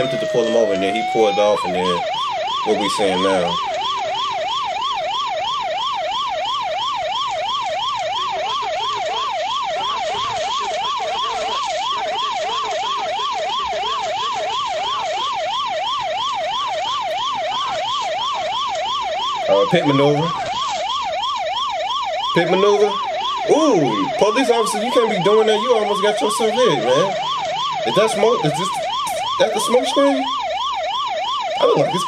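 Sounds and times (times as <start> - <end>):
police siren yelping: 0.0 - 32.0.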